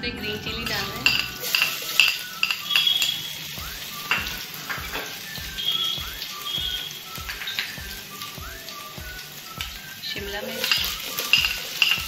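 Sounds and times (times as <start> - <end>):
background music with beat: 0.0 - 12.0
chillies sizzling in hot oil: 0.2 - 12.0.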